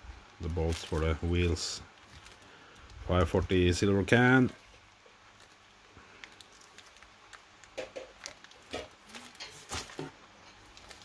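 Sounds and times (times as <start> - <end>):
plastic bags crinkling: 0.3 - 11.0.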